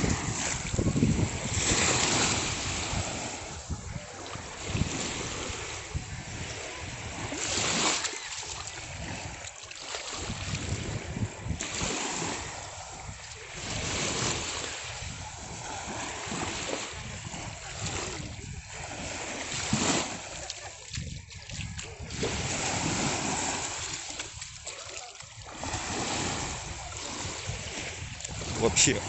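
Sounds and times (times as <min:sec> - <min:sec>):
sea water splashing: 0:00.0 - 0:29.0
wind on microphone: 0:00.0 - 0:29.0.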